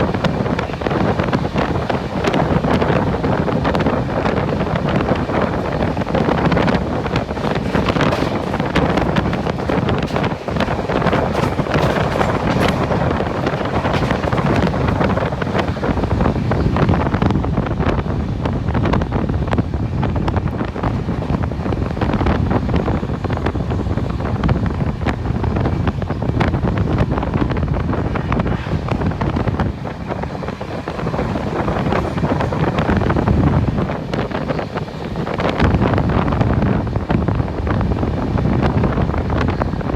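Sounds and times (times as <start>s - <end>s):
moving train rushing: 0.0s - 39.9s
wind buffeting microphone: 0.0s - 39.9s.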